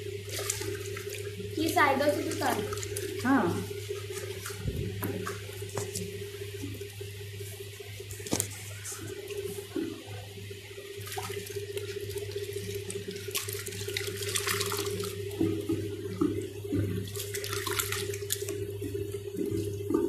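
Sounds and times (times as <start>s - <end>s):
liquid sloshing in a bucket: 0.0s - 20.0s
steady low hum: 0.0s - 20.0s.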